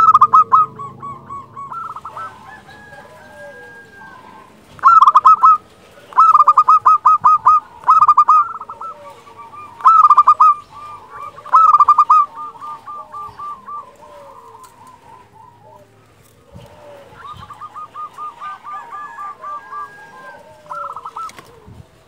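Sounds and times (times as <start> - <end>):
dove cooing: 0.0 - 22.0.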